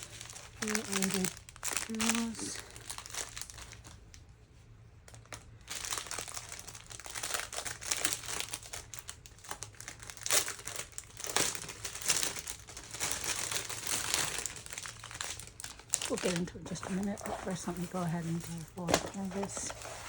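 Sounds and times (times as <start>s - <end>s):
plastic packaging crinkling: 0.0s - 4.2s, 5.0s - 20.0s.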